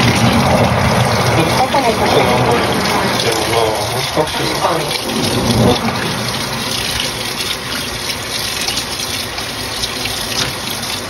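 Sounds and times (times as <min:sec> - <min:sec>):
water pouring into washing machine: 0:00.0 - 0:11.0.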